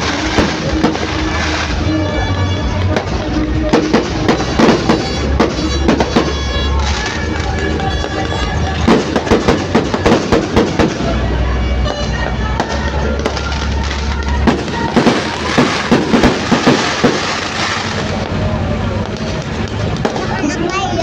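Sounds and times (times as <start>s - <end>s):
music with heavy bass: 0.0s - 20.6s
fireworks bangs and crackles: 0.0s - 21.0s.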